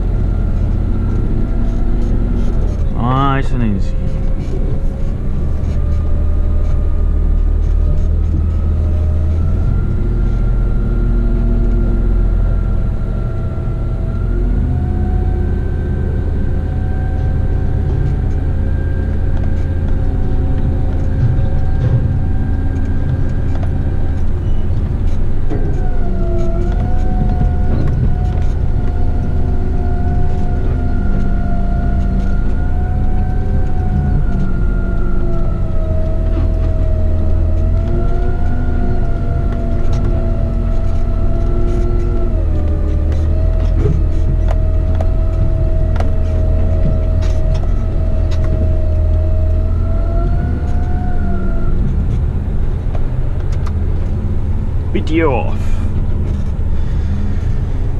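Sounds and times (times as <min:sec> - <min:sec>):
drivetrain whine: 0:00.0 - 0:57.9
truck diesel engine rumble: 0:00.0 - 0:57.9.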